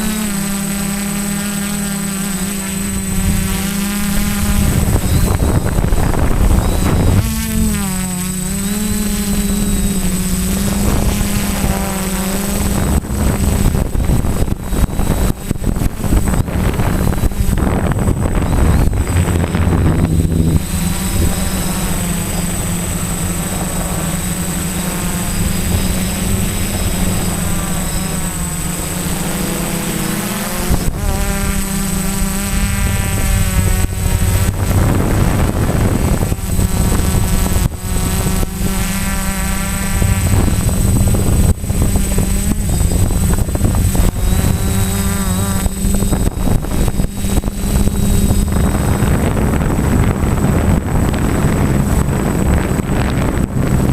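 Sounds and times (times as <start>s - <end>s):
quadcopter motors buzzing: 0.0s - 53.9s
wind buffeting: 1.1s - 53.9s.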